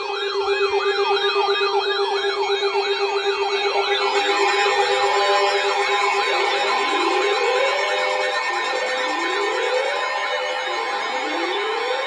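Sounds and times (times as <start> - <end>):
electronic siren yelp: 0.0 - 12.0
rising siren wail: 0.0 - 12.0.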